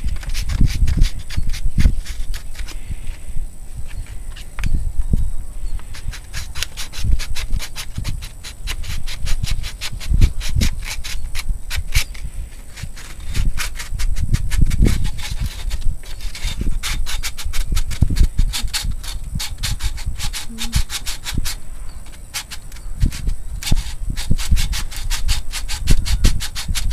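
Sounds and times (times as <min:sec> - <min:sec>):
sandpaper rubbing on wood: 0:00.0 - 0:02.9, 0:05.8 - 0:26.9.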